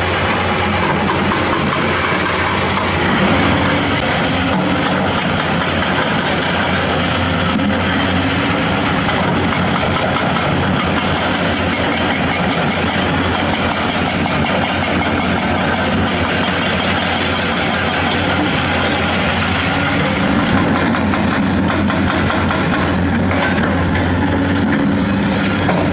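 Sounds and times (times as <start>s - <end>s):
excavator diesel engines running: 0.0s - 25.9s.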